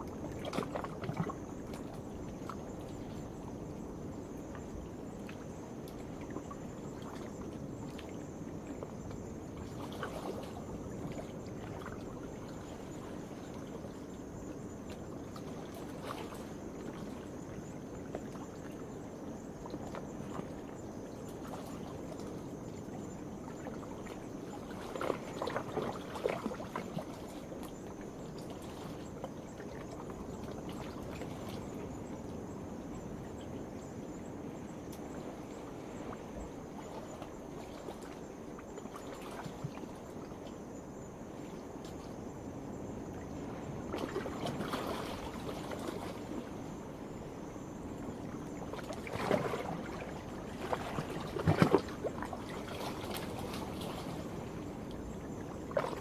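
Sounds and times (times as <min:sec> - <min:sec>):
night insects chorus: 0:00.0 - 0:56.0.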